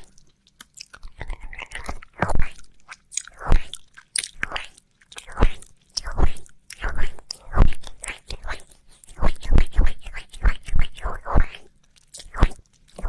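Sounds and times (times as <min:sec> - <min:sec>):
wet mouth licking sounds: 0:00.0 - 0:13.0.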